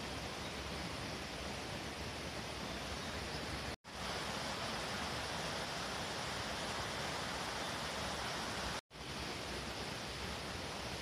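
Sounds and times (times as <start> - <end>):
rushing outdoor ambience: 0.0 - 11.0.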